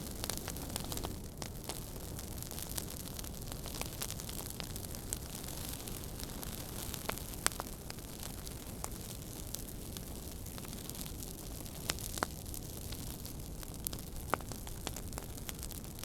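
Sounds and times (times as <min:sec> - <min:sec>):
fire pops and snaps: 0:00.0 - 0:16.0
wood fire rumbling and hissing: 0:00.0 - 0:16.0.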